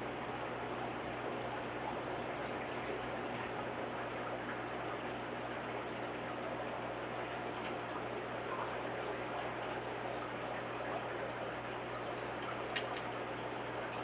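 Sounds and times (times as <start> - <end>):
aquarium water running: 0.0 - 14.0
low steady hum: 0.0 - 14.0.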